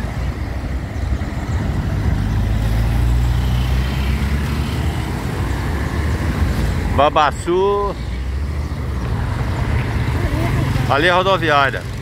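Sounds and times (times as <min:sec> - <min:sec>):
traffic driving past: 0:00.0 - 0:12.0.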